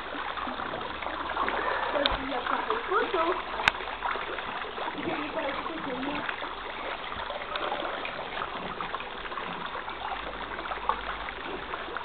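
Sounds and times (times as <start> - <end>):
hose water running into pool: 0.0 - 12.0.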